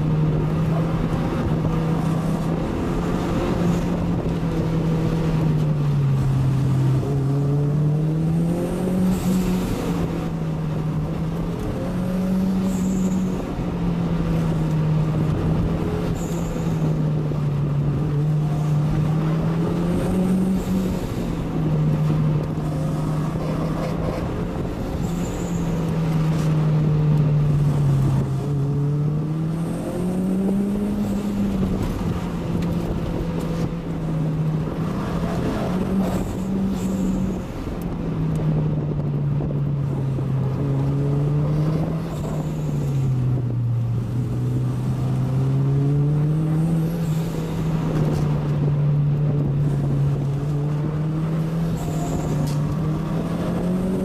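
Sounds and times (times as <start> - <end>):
car engine from cabin: 0.0 - 54.0
road noise hum: 0.0 - 54.0.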